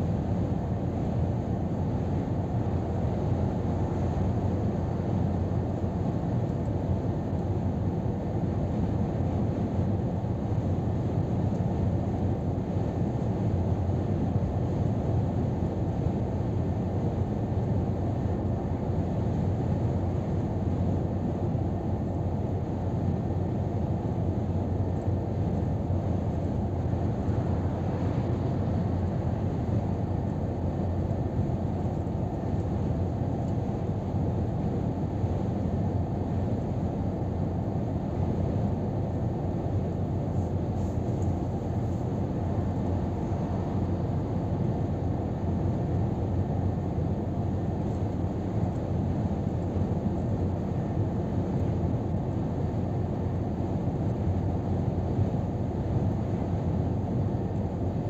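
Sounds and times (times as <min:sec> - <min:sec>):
truck cab drone: 0:00.0 - 0:58.0.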